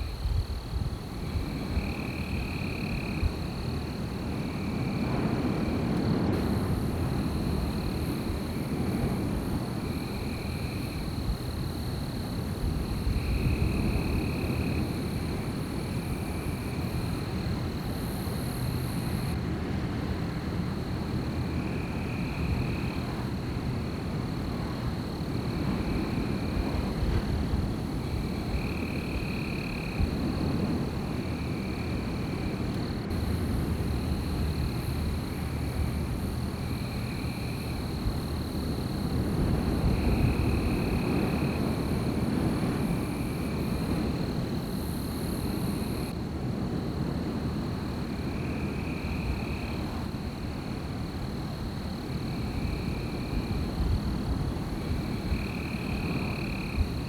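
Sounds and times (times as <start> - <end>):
wind through forest: 0.0 - 57.0.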